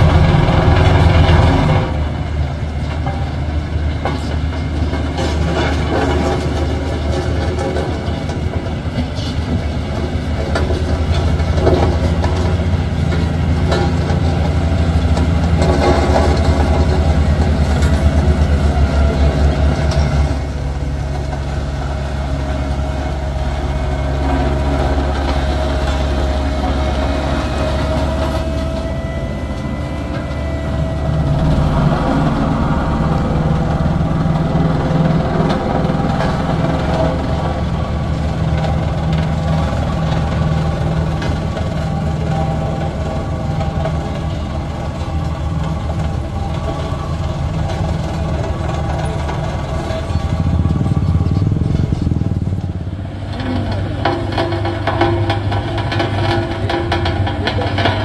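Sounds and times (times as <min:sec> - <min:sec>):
heavy vehicle engine droning: 0:00.0 - 0:58.0.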